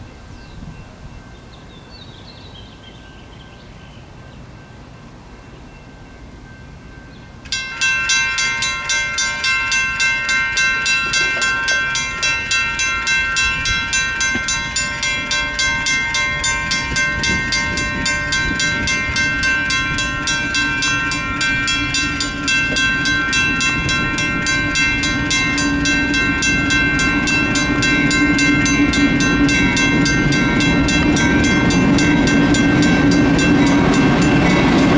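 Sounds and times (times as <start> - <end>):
low train rumble: 0.0 - 34.9
railroad crossing bell ringing: 0.0 - 34.9.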